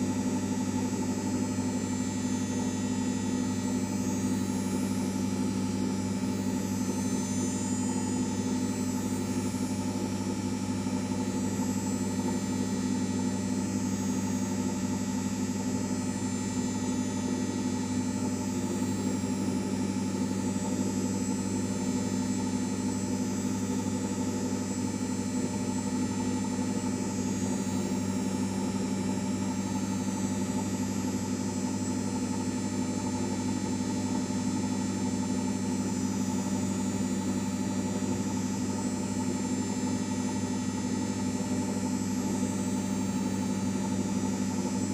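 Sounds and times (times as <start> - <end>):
washing machine humming: 0.0 - 44.9.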